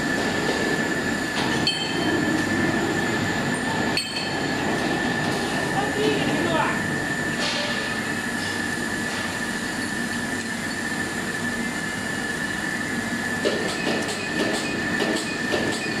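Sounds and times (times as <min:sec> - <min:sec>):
machine high whine: 0:00.0 - 0:16.0.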